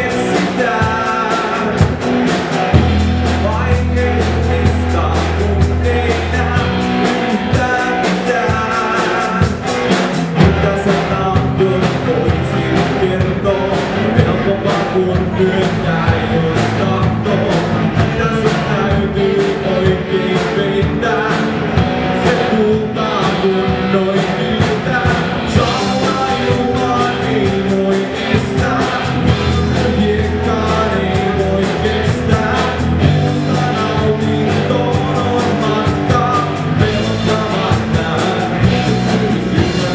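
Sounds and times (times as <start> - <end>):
drum kit: 0.0 - 39.9
loud electric guitars: 0.0 - 39.9
person singing: 0.0 - 39.9.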